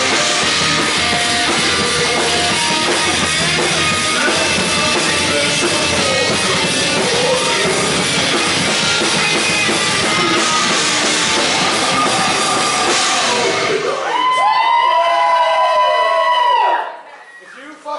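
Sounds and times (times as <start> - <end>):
drum kit: 0.0 - 14.7
electric guitars: 0.0 - 15.0.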